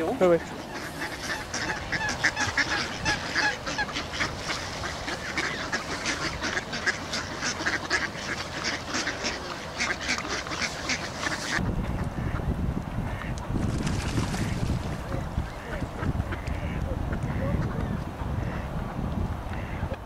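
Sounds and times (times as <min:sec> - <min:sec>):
ducks calling rapidly: 0:00.0 - 0:12.4, 0:14.1 - 0:18.7, 0:19.5 - 0:20.0.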